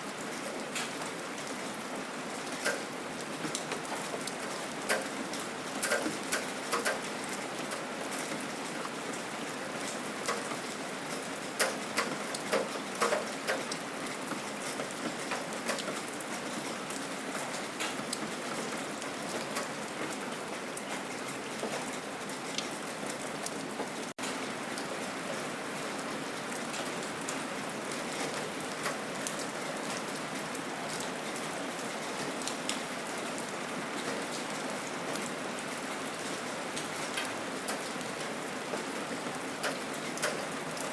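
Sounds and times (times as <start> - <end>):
steady rain: 0.0 - 40.9
raindrops ticking close by: 0.1 - 40.9.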